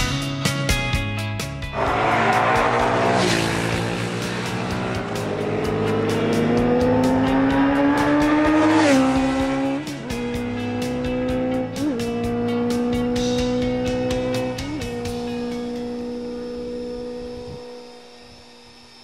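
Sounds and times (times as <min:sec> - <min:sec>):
music with steady beat: 0:00.0 - 0:03.0, 0:03.8 - 0:16.1
motorcycle engine accelerating: 0:01.7 - 0:19.0.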